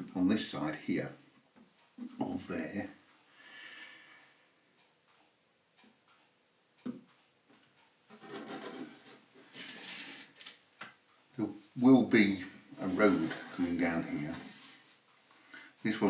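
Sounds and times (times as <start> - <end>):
soft hiss: 0.0 - 7.8, 8.9 - 16.0.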